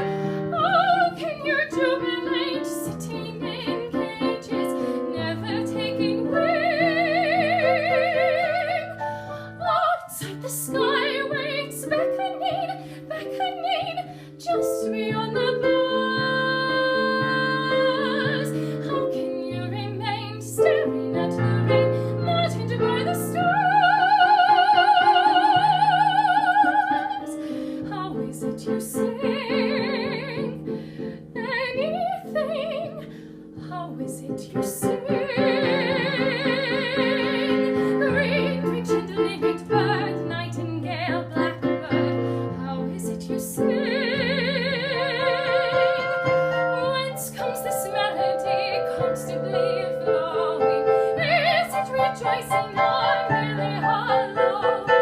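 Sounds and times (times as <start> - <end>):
piano accompaniment: 0.0 - 55.0
soprano singing: 0.0 - 55.0.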